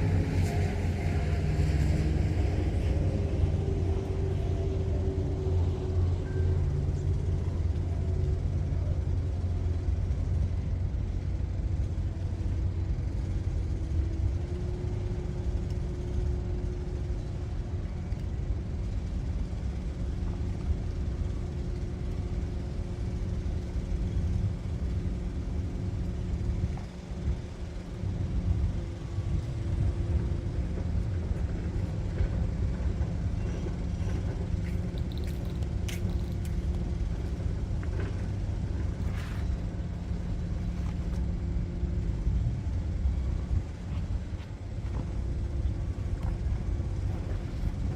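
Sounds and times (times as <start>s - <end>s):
engine droning: 0.0s - 47.9s.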